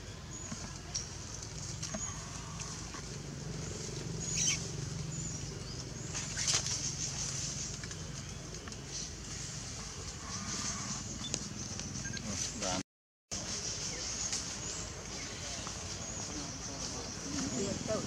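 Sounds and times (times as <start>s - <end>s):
leaves and branches rustling: 0.2s - 18.0s.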